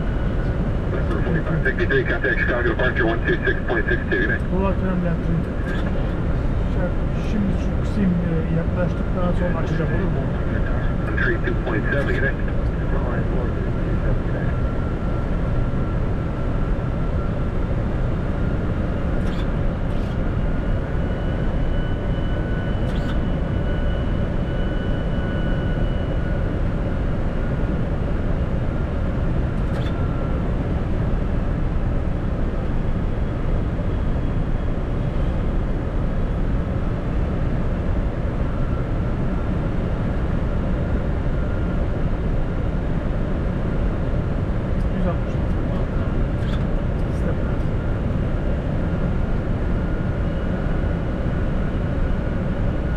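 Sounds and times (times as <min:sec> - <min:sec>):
airflow and engine rush: 0:00.0 - 0:52.9
faint high whine: 0:00.0 - 0:52.9.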